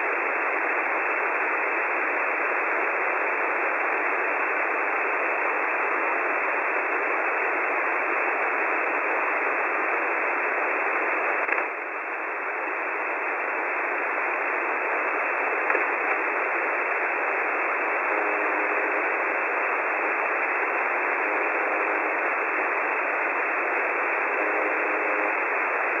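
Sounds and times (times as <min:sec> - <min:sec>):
shortwave radio static hiss: 0:00.0 - 0:26.0.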